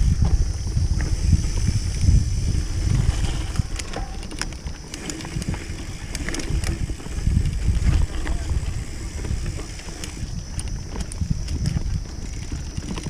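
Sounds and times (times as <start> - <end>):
bike clicks and rattles: 0.0 - 13.0
bike rumbling on dirt track: 0.0 - 13.0.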